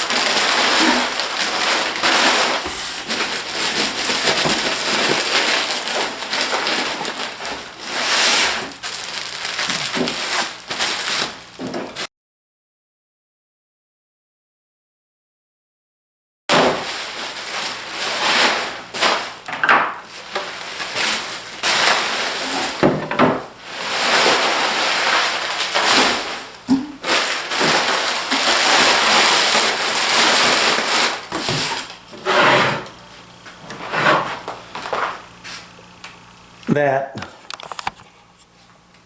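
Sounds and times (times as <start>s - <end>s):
packing material rustling: 0.0s - 12.1s, 16.5s - 35.8s.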